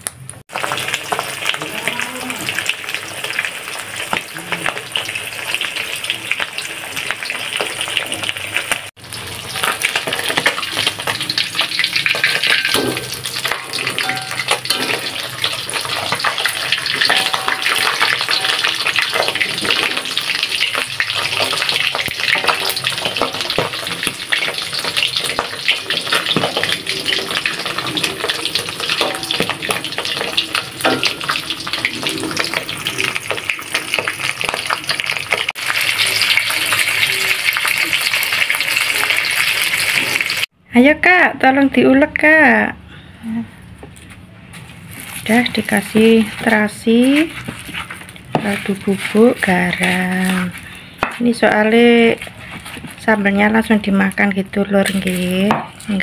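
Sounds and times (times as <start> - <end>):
fish deep-frying in hot oil: 0.0 - 40.6, 44.6 - 56.0.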